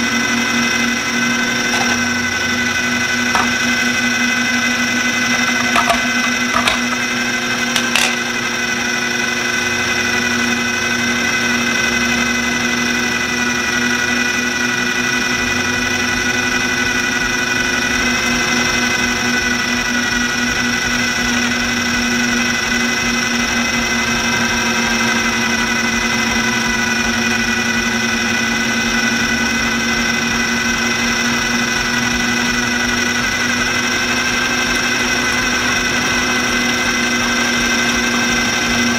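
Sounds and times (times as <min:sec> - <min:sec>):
food processor motor running: 0:00.0 - 0:38.9.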